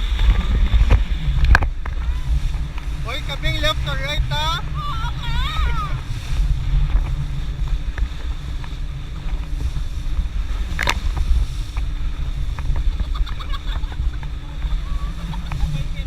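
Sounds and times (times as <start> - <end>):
motorboat engine running: 0.0 - 16.0
wind rumble on microphone: 0.0 - 16.0.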